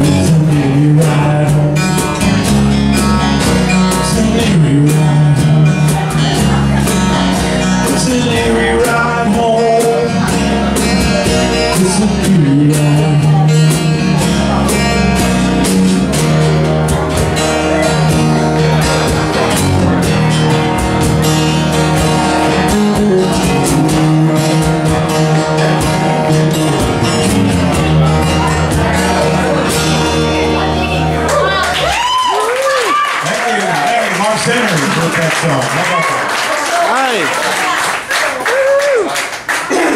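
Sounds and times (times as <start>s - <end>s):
strummed acoustic guitars: 0.0s - 32.0s
cajon beat: 0.0s - 34.9s.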